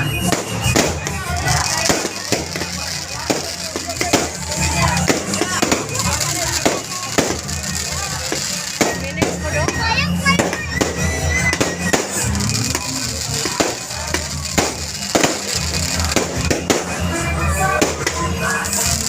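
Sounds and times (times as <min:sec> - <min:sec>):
fireworks bangs and crackles: 0:00.0 - 0:19.0
music with heavy bass beat: 0:00.0 - 0:19.0.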